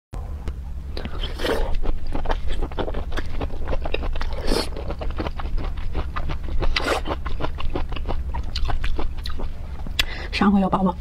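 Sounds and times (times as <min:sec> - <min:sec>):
chewing crunches: 0:01.0 - 0:10.1.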